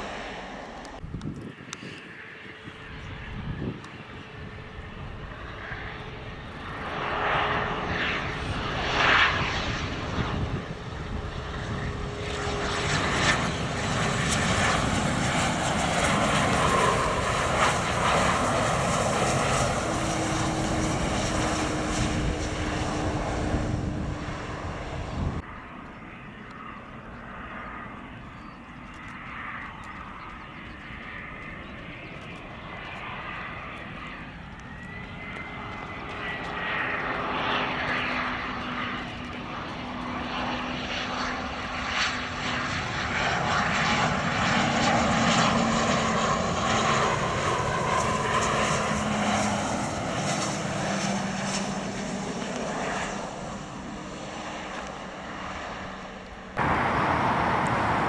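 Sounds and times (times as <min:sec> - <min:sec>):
distant jet engine: 0:00.0 - 0:58.0
jet engines whining: 0:00.0 - 0:58.0.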